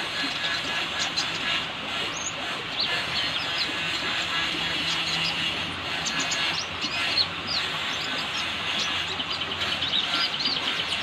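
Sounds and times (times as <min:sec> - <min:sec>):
sunbird chirping and twittering: 0:00.0 - 0:11.0.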